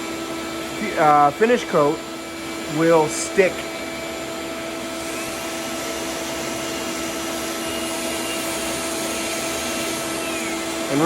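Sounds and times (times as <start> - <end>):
shop vacuum running: 0.0 - 11.0.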